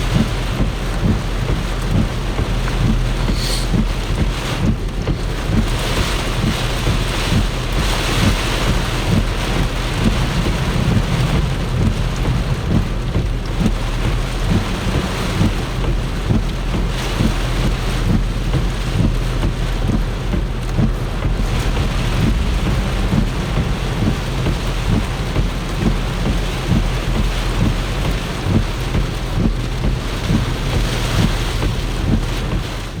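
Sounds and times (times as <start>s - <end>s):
torrential rain: 0.0s - 33.0s
vehicle humming: 0.0s - 33.0s
wind buffeting microphone: 0.0s - 33.0s.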